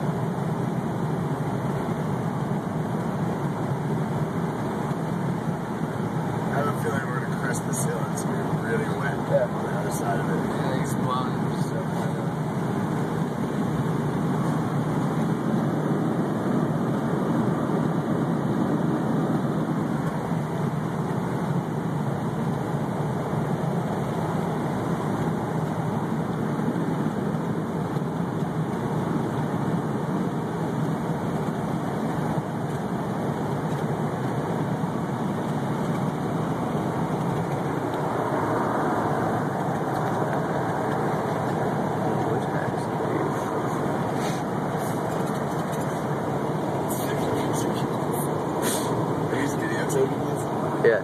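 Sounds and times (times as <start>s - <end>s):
vehicle road and engine noise: 0.0s - 51.0s.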